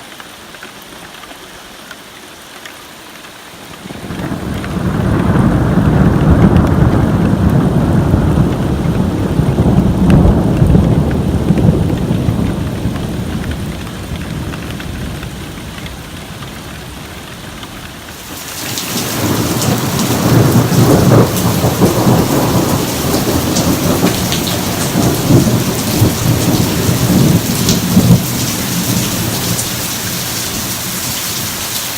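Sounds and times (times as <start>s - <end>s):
heavy rain downpour: 0.0s - 31.9s
rolling thunder: 3.9s - 31.6s.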